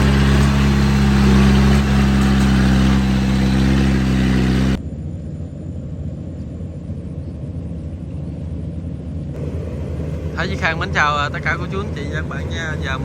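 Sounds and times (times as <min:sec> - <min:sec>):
diesel engine running: 0:00.0 - 0:13.0
faint low engine rumble: 0:00.0 - 0:13.0.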